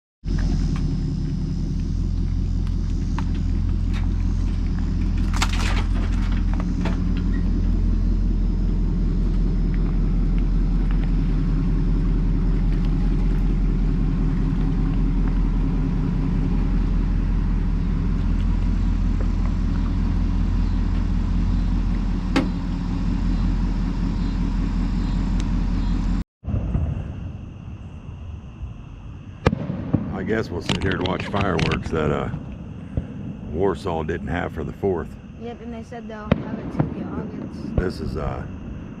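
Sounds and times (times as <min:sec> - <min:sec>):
vehicle engine droning: 0:00.2 - 0:26.2, 0:29.4 - 0:39.0.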